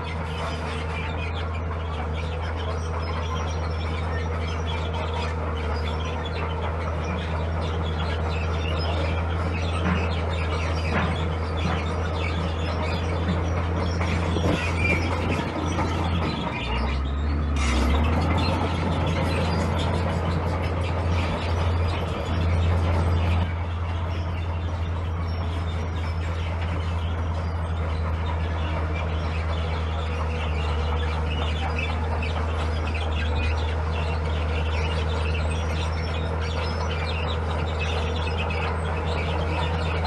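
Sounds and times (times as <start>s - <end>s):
diesel machinery droning: 0.0s - 40.0s.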